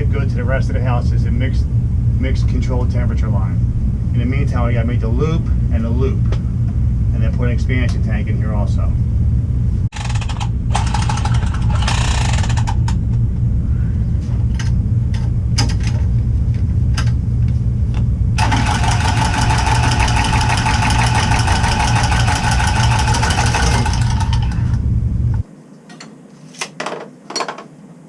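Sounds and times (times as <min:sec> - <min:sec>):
low machine drone: 0:00.0 - 0:25.5.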